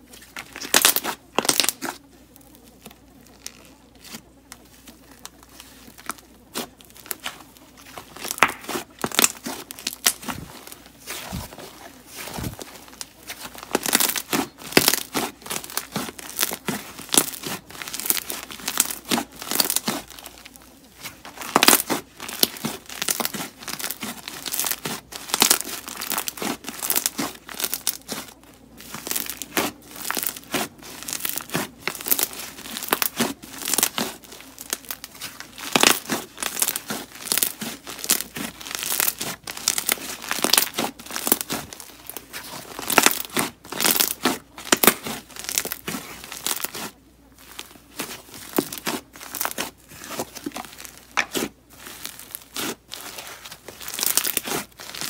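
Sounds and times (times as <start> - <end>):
slime crackling and popping: 0.1 - 2.0, 2.7 - 55.0.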